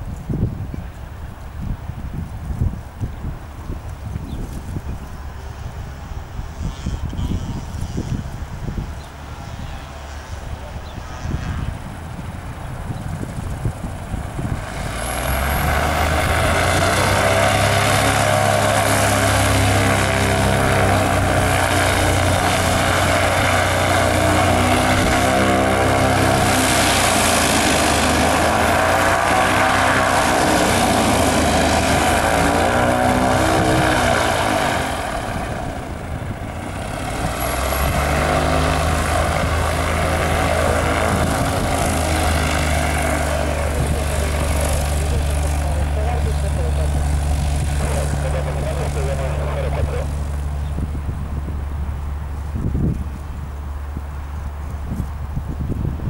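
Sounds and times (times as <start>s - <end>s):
propeller plane engine at full power: 0.0s - 56.0s.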